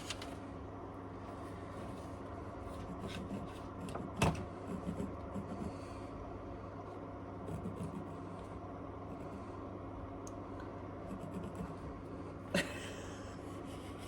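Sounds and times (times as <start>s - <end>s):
electric heater humming: 0.0s - 14.0s.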